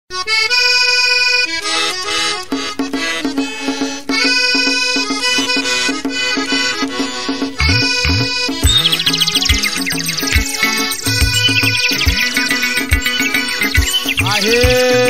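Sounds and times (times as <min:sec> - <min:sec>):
accordion playing: 0:00.1 - 0:15.0.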